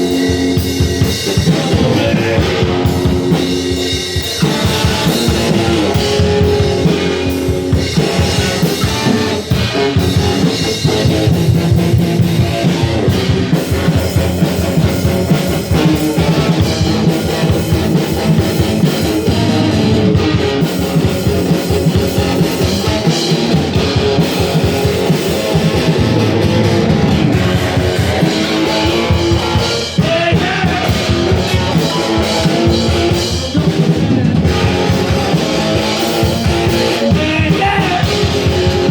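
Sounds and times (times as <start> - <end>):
drum kit beat: 0.0 - 38.9
strummed guitar: 0.0 - 38.9.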